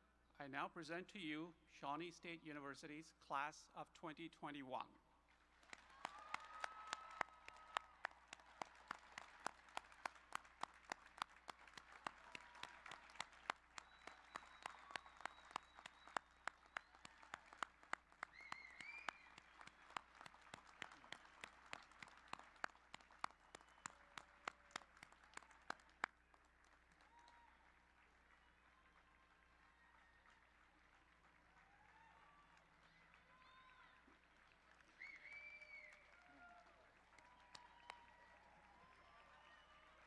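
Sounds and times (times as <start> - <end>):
thin crowd applause: 5.4 - 40.0.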